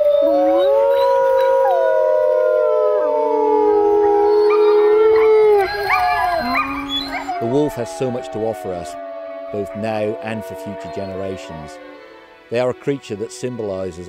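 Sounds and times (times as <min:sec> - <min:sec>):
man imitating a howl: 0:00.0 - 0:12.0
wolves howling: 0:00.0 - 0:12.6.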